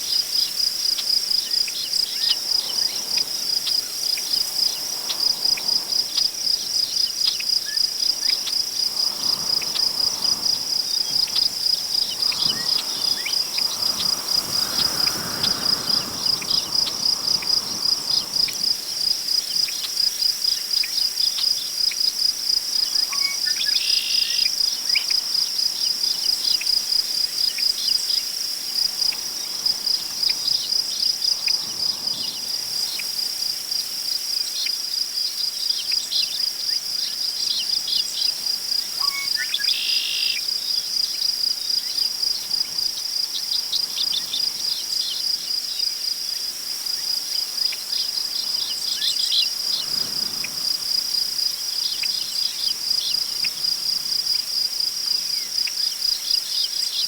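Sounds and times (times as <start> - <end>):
grass rustling in the wind: 0.0 - 39.7, 40.5 - 57.0
crickets chirping: 0.0 - 57.0.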